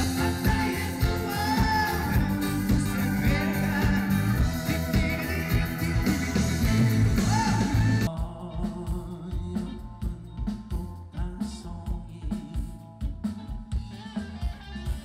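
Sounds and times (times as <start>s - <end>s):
live band playing: 0.0s - 15.0s
steady drum beat: 0.0s - 15.0s.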